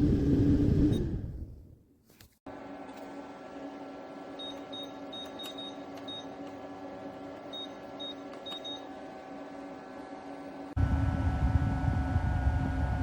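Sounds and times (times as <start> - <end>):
air cooler fan humming: 2.5 - 13.0.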